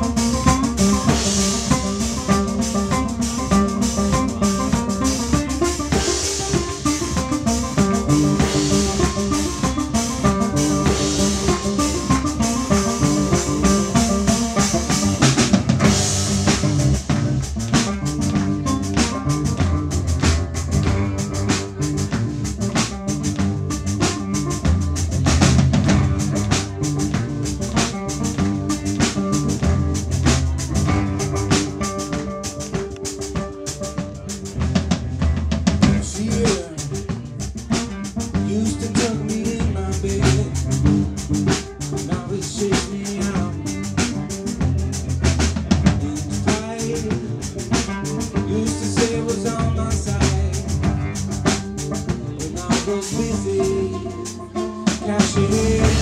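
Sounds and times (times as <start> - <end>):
drum groove: 0.0 - 56.0.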